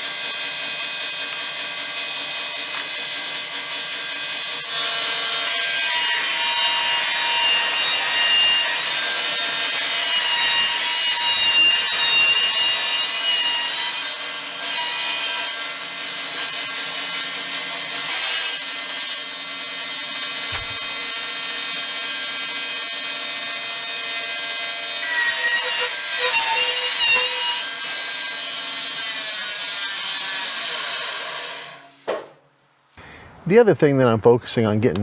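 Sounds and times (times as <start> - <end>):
bandsaw cutting wood: 0.0 - 32.1.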